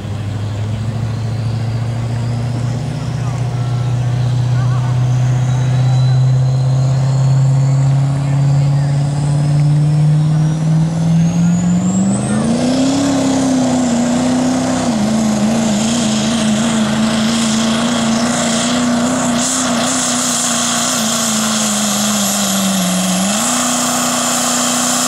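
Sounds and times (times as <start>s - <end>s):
diesel truck engine at full throttle: 0.0s - 25.0s.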